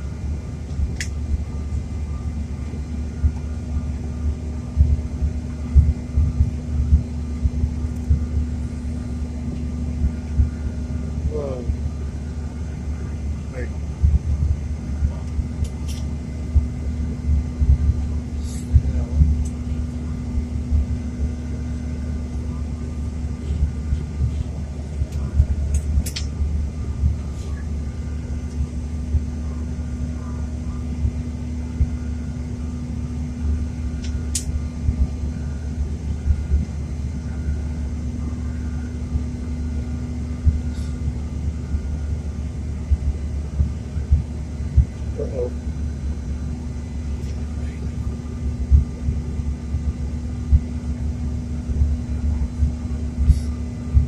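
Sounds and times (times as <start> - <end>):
constant low hum: 0.0 - 54.0
jet engines and airflow drone: 0.0 - 54.0
uneven low rumble: 0.0 - 54.0.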